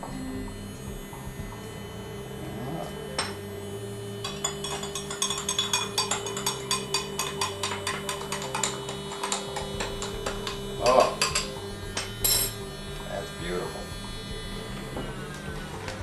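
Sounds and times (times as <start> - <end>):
handheld smoker fan humming: 0.0 - 16.0.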